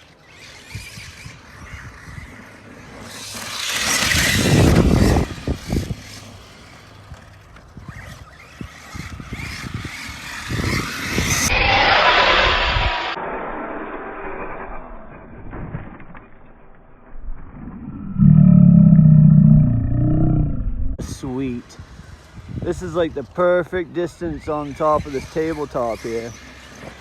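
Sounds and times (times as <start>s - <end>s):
rc truck motor on dirt: 0.0s - 27.0s.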